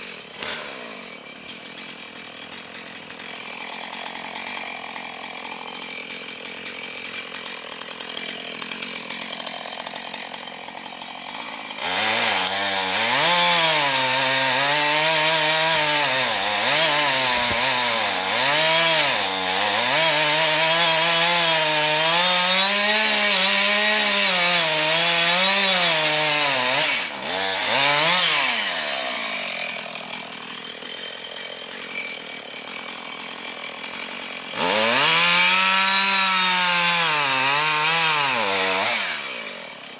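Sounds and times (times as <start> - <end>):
chainsaw cutting wood: 0.0 - 39.9
chainsaw idling and revving: 0.0 - 39.9.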